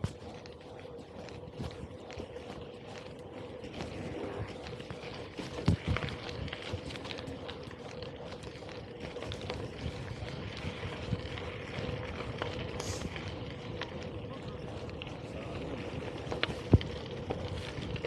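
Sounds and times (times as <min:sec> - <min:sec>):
bike tyres rolling on rough track: 0:00.0 - 0:18.0
wind on microphone: 0:00.0 - 0:18.0.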